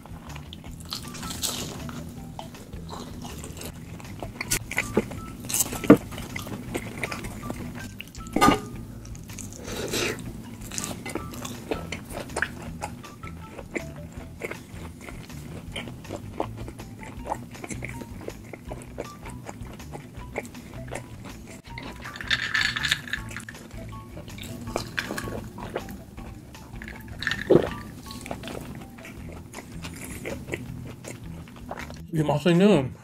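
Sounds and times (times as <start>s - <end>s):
food being chewed: 0.0s - 32.1s.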